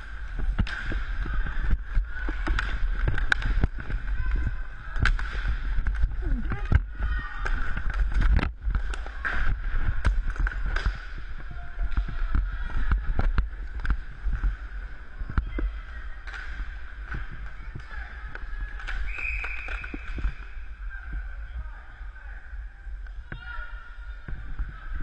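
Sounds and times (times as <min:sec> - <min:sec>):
sticks and puck clacking: 0:00.0 - 0:21.2
inline skate wheels rumbling: 0:00.0 - 0:21.5.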